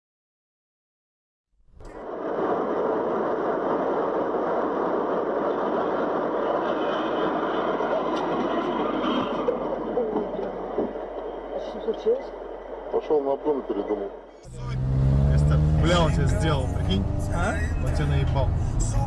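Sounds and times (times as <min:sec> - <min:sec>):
car road and engine noise: 0:01.7 - 0:19.0.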